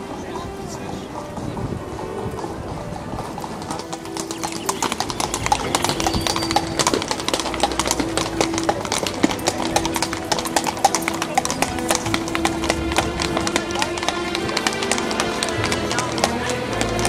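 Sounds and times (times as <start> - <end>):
hooves clip-clopping on cobblestones: 0.0 - 17.0.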